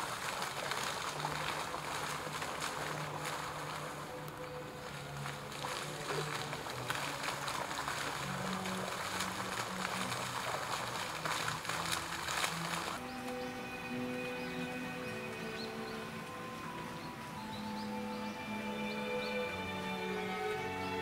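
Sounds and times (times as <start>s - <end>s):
soft background music: 0.0s - 21.0s
water rushing and splashing: 0.0s - 21.0s.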